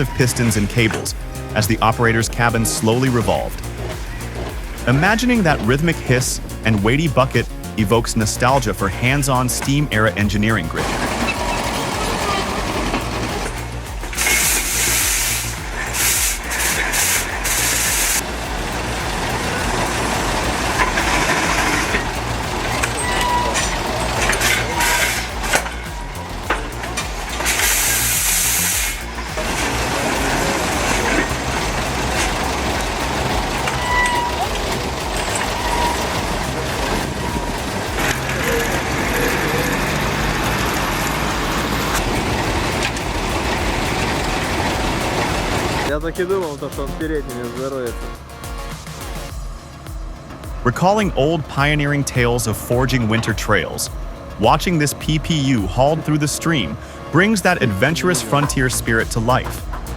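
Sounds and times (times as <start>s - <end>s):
loud hiss bursts: 0.0s - 50.8s
heavy machine engine running: 0.0s - 59.9s.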